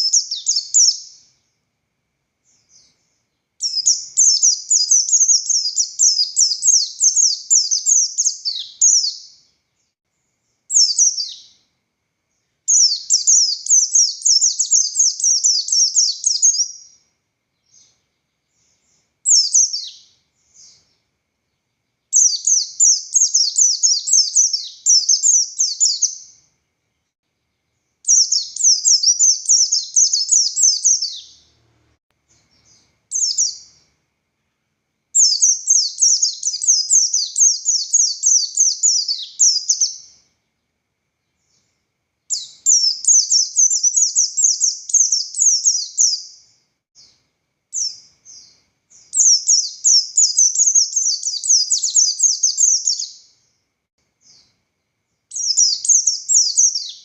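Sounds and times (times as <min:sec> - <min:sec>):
white-eye bird singing: 0:00.0 - 0:01.6, 0:02.4 - 0:53.6, 0:54.2 - 0:57.0.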